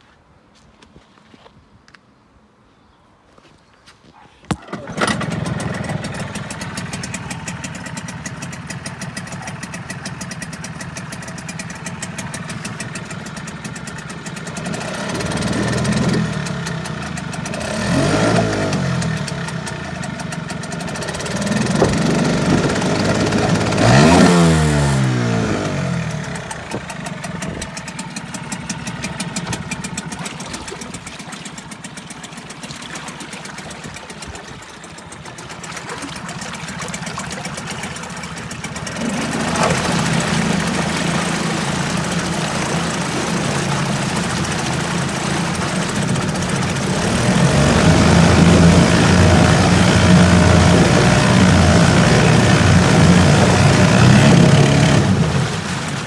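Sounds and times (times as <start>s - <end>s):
outboard motor revving and idling: 4.5s - 56.0s.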